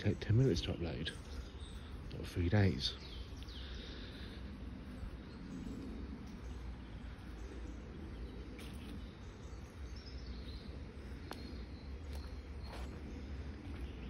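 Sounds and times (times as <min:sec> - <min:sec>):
faint bird chirps: 0:00.0 - 0:14.0
low background noise: 0:00.0 - 0:14.0.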